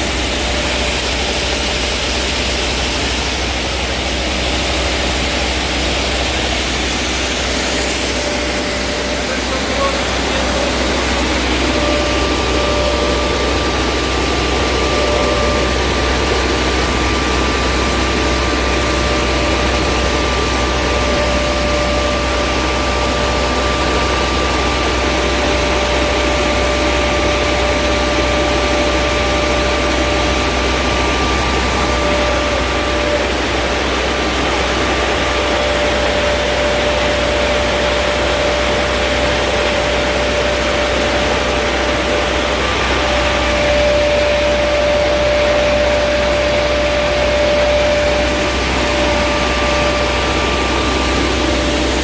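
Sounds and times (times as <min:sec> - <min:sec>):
high whine: 0:00.0 - 0:52.0.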